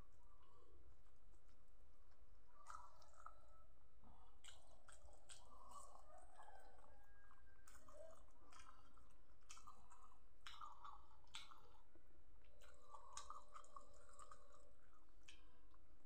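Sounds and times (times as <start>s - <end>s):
man chewing with mouth clicks: 0.0s - 16.0s.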